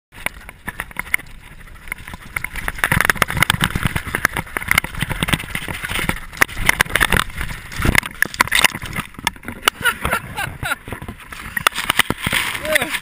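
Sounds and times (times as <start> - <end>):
bike rattling over bumps: 0.1 - 13.0
tyre and wind noise: 0.1 - 13.0.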